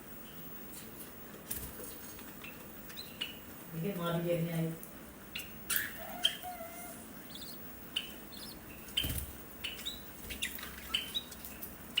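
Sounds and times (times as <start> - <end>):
small birds chirping: 1.6 - 12.0.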